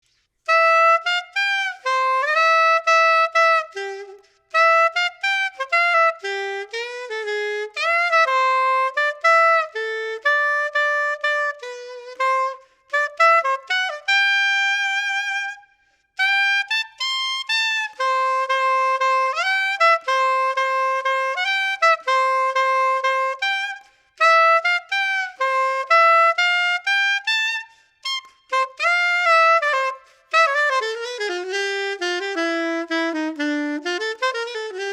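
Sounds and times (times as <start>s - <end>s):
soprano saxophone melody: 0.5s - 34.9s.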